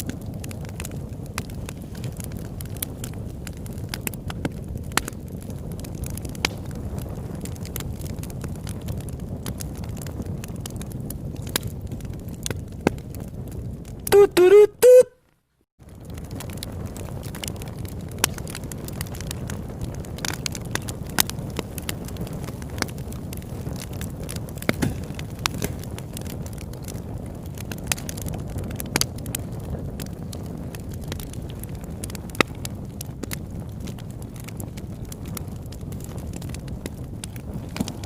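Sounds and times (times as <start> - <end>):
campfire flame rushing: 0.0 - 14.1, 15.8 - 38.0
wood crackling and popping: 0.0 - 38.0.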